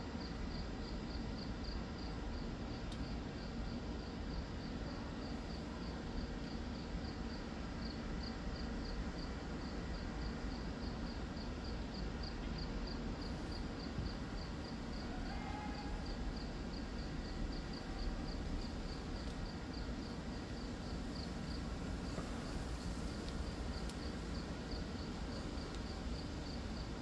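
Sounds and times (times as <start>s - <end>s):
insects chirping: 0.1s - 27.0s.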